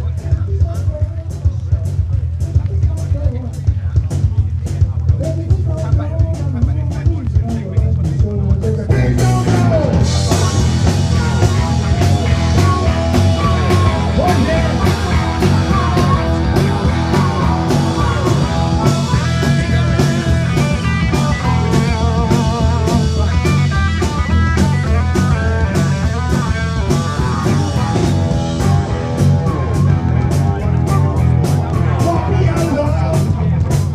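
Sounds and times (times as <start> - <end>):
live rock band playing: 0.0 - 33.9
electric guitar: 4.6 - 33.9.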